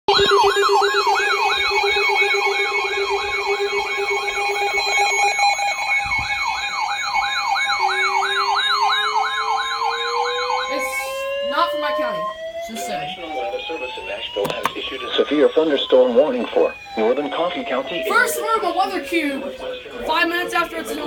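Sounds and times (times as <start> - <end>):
rising siren wail: 0.1 - 21.0
siren yelp: 0.1 - 21.0
steady siren tones: 0.1 - 21.0.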